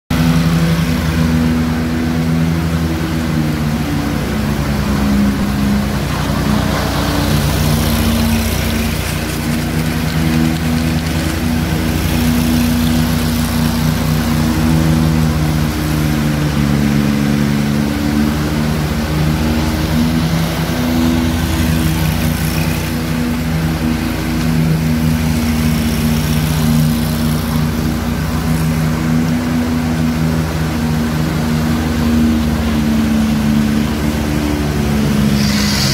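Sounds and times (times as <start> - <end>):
power trowel engines running: 0.1 - 35.9.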